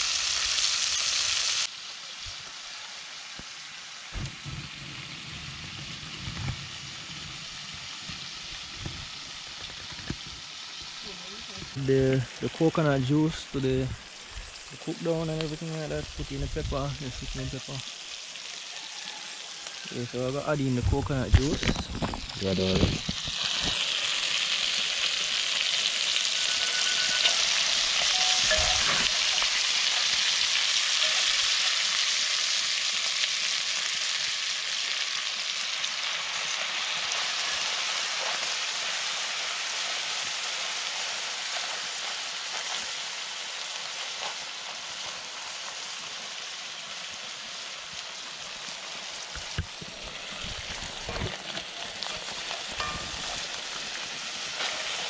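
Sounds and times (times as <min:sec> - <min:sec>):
food sizzling in a skillet: 0:00.0 - 0:55.0.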